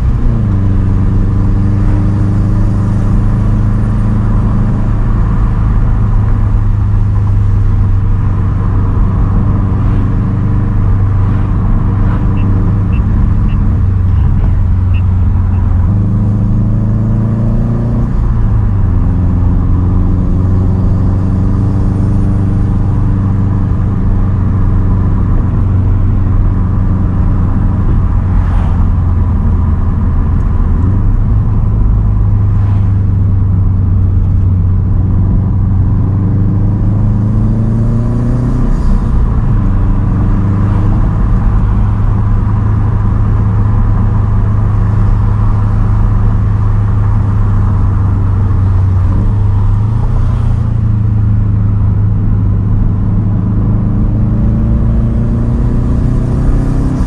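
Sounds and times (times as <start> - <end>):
car engine cruising: 0.0 - 57.0.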